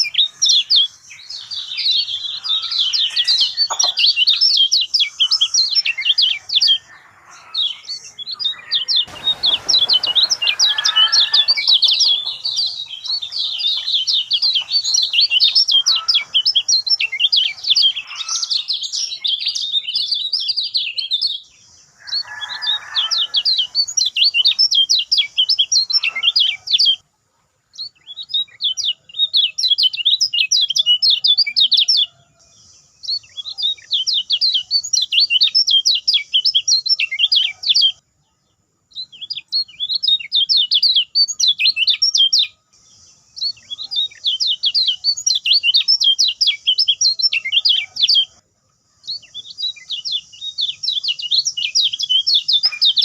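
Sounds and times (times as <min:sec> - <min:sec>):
birds chirping and trilling: 0:00.0 - 0:53.0.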